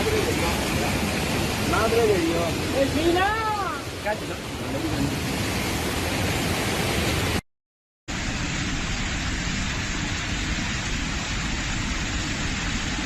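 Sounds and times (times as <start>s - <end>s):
floodwater rushing: 0.0s - 7.4s, 8.1s - 13.0s
heavy rain: 0.0s - 7.4s, 8.1s - 13.0s.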